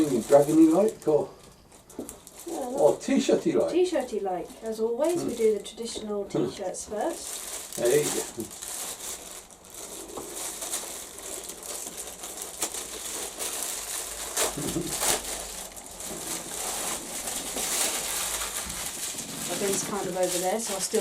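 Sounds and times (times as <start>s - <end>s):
packaging rustling and crinkling: 0.0s - 21.0s.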